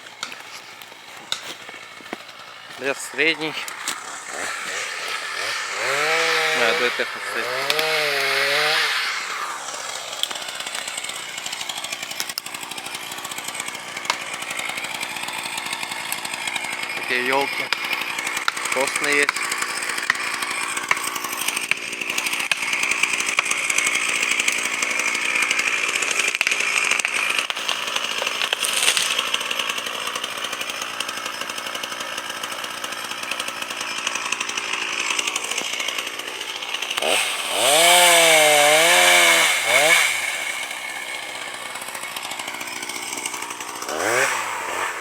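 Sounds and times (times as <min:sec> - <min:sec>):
chainsaw running: 0:00.0 - 0:45.0.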